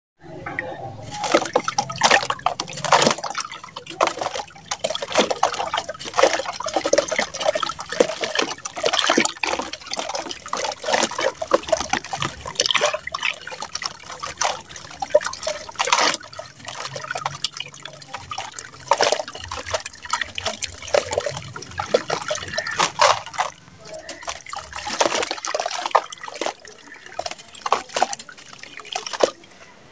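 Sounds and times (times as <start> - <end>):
water splashes and trickling: 0.2 - 29.9.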